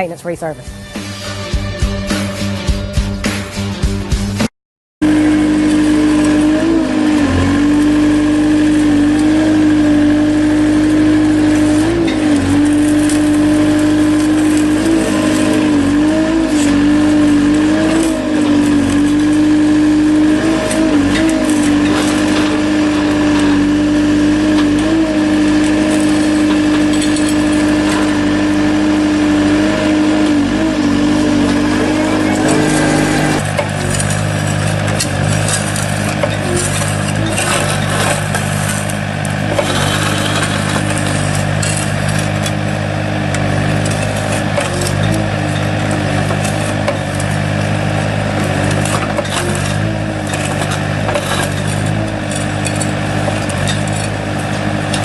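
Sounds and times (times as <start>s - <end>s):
machine engine running loudly: 5.0s - 55.0s.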